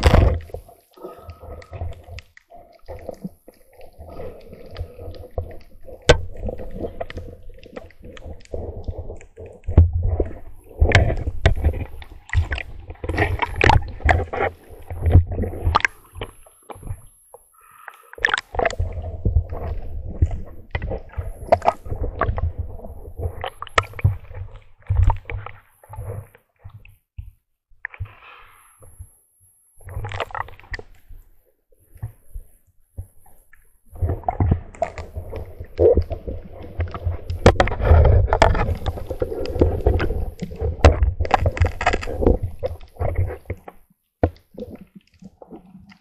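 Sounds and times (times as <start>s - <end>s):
water sloshing and gurgling: 0.0s - 29.2s, 29.8s - 46.0s.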